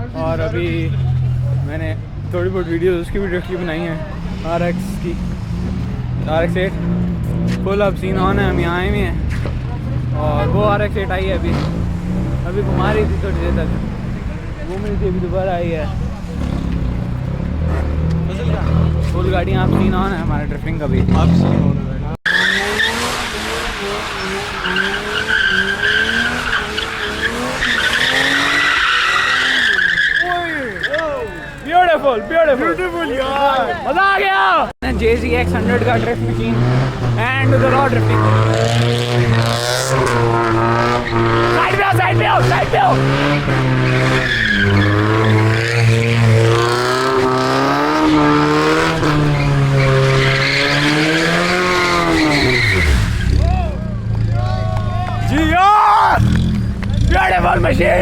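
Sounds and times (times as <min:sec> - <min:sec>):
car engine revving: 0:00.0 - 0:30.9, 0:34.8 - 0:58.0
car tyres squealing: 0:00.0 - 0:58.0.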